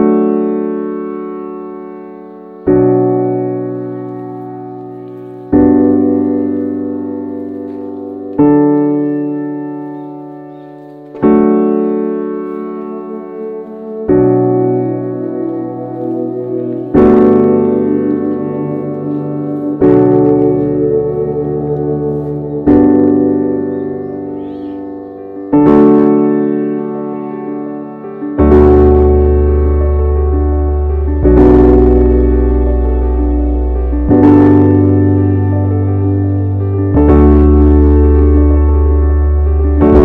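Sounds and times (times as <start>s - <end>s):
slow piano chords: 0.0s - 40.0s.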